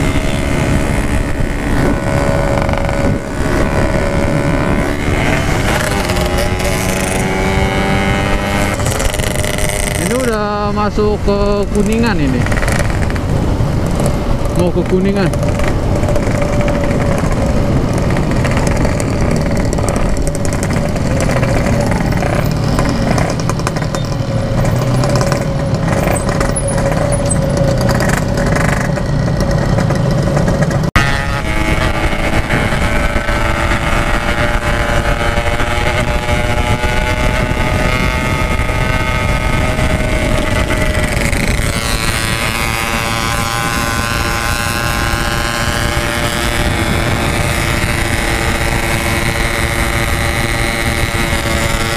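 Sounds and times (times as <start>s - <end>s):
two-stroke motorcycle engine running: 0.0s - 51.9s
wind rush: 0.0s - 51.9s.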